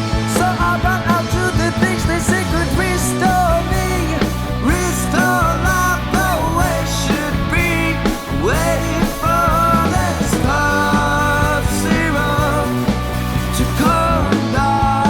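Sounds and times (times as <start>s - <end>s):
grunge rock band music: 0.0s - 15.0s.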